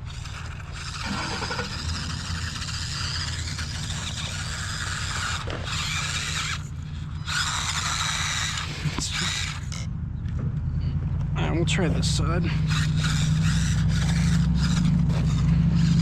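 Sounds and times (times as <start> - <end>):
toy car motor whining: 0.0 - 9.9, 11.7 - 16.0.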